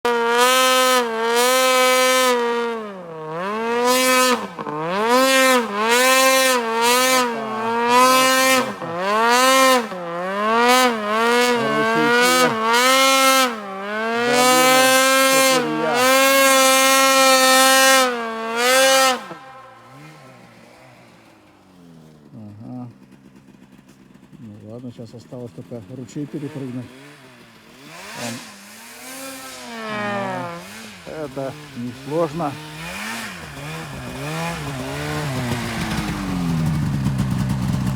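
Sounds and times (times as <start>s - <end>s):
vehicle engine running hard: 0.0s - 37.9s.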